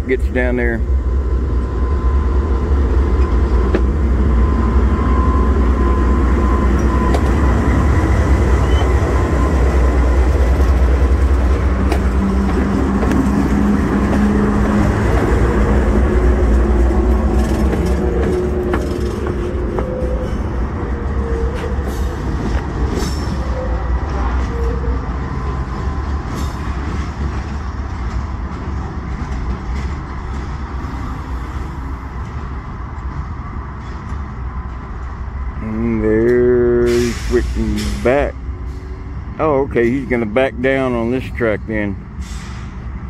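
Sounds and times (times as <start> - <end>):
diesel locomotive engine rumbling: 0.0 - 43.0.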